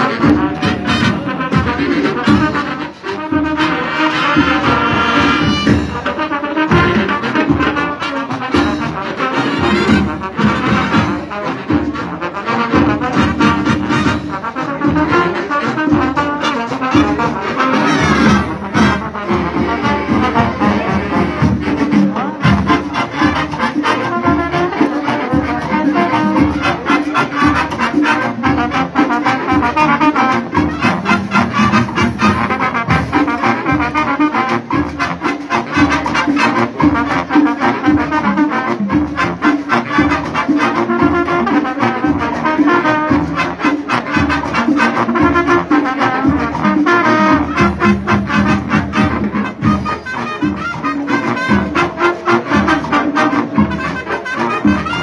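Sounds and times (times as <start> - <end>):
brass section playing: 0.0 - 55.0
driving drum beat: 0.0 - 55.0.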